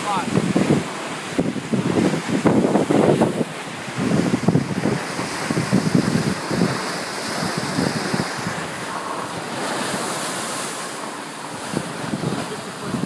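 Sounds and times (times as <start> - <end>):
water rushing past hulls: 0.0 - 13.0
wind buffeting microphone: 0.0 - 13.0.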